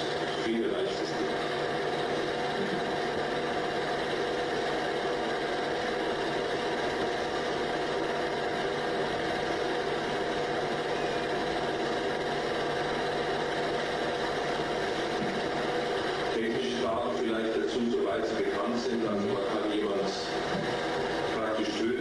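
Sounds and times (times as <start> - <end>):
film projector whirring: 0.0 - 22.0.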